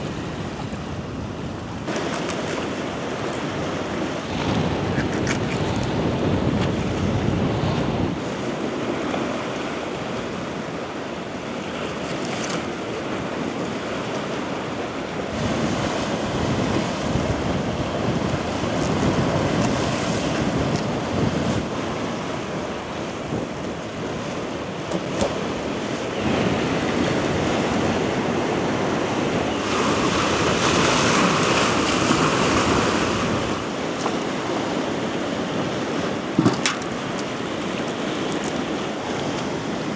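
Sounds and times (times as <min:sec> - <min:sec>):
wind buffeting microphone: 0:00.0 - 0:10.8, 0:12.8 - 0:39.9
sea surf washing onto shore: 0:00.0 - 0:39.9.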